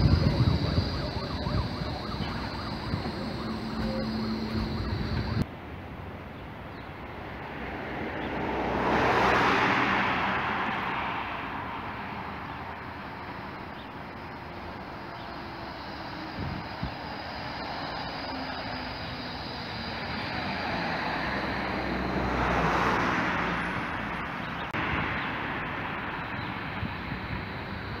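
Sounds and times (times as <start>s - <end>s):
rushing noise: 0.0s - 5.5s, 7.6s - 28.0s
tram rolling past with high whine: 0.0s - 5.5s, 9.6s - 28.0s.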